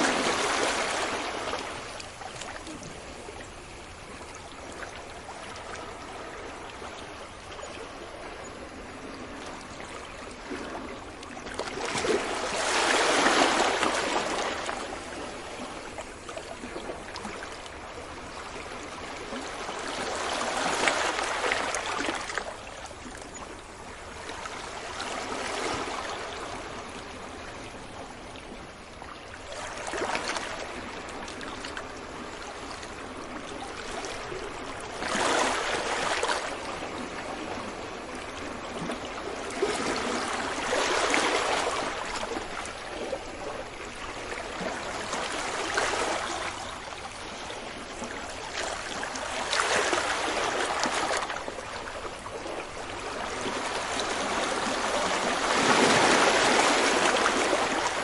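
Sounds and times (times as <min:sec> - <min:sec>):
ocean waves breaking: 0:00.0 - 0:04.0, 0:08.0 - 0:27.4, 0:29.4 - 0:58.0.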